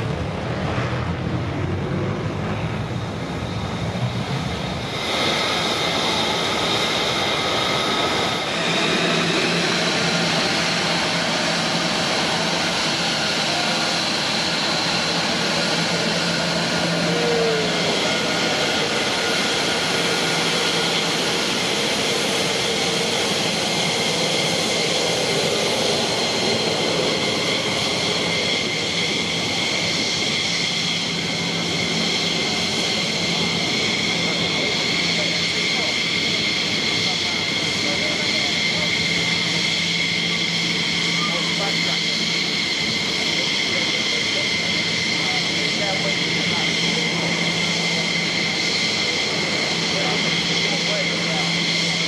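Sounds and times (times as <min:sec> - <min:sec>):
jet engines whining and roaring: 0:00.0 - 0:52.0.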